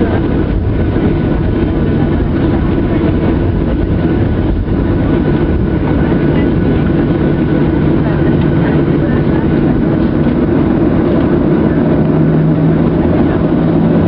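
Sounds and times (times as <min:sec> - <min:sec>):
faint jet engine whine: 0:00.0 - 0:14.0
jet engines rumbling: 0:00.0 - 0:14.0.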